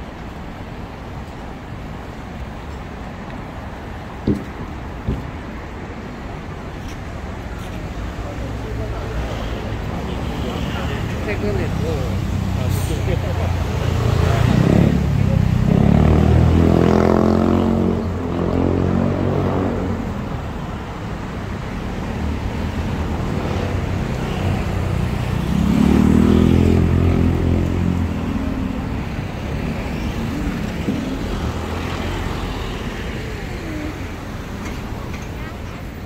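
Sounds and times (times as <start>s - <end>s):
traffic hum: 0.0s - 36.0s
vehicles passing close by: 0.0s - 36.0s.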